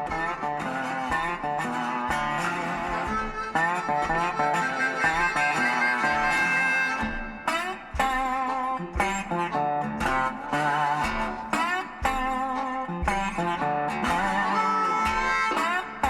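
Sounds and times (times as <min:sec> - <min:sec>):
blues guitar: 0:00.0 - 0:16.0.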